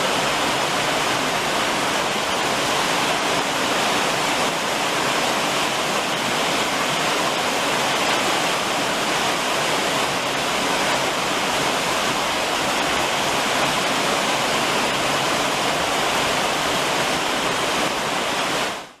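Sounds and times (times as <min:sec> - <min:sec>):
rain beating on a roof: 0:00.0 - 0:19.0.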